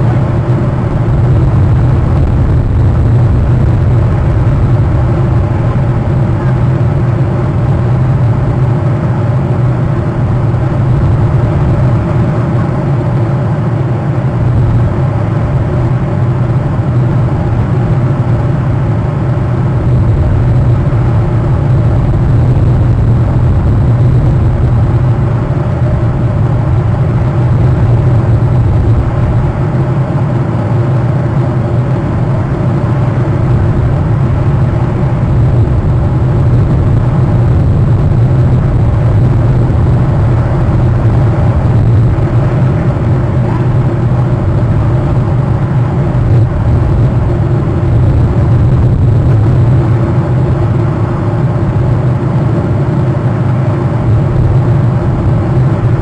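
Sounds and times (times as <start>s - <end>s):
loud low humming drone: 0.0s - 56.0s.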